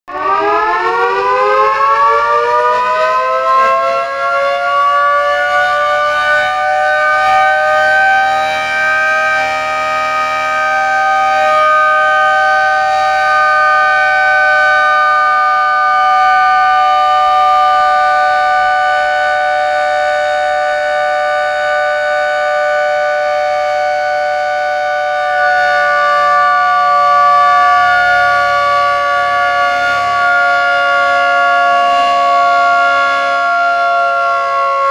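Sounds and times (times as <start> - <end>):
motor siren wailing: 0.1 - 34.9.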